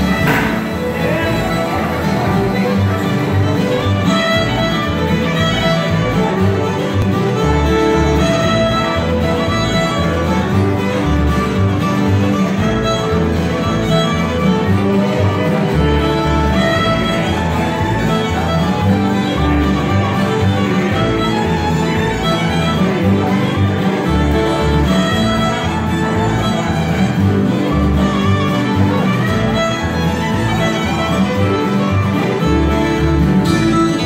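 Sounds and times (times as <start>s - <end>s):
fiddle: 0.0s - 34.0s
strummed acoustic guitars: 0.0s - 34.0s
upright bass plucking: 0.0s - 34.0s.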